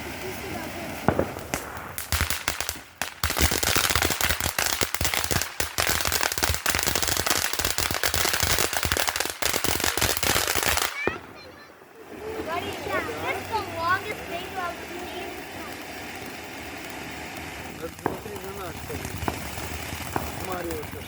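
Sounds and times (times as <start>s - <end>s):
firework bangs and crackles: 0.0s - 21.0s.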